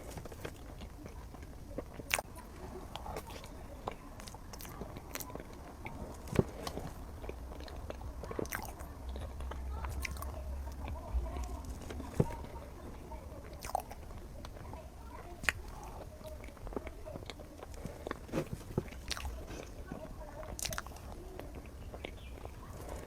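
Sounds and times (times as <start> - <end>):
chewing soft cake: 0.0 - 23.0.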